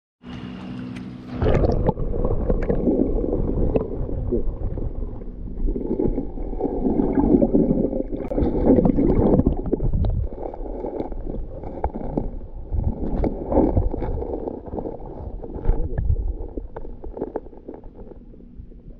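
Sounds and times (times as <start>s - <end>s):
muffled underwater river gurgling: 1.2s - 18.9s.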